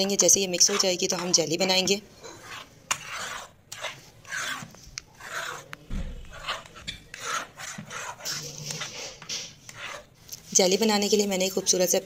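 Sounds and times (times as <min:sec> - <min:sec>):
spoon scraping metal pan: 0:00.0 - 0:12.0.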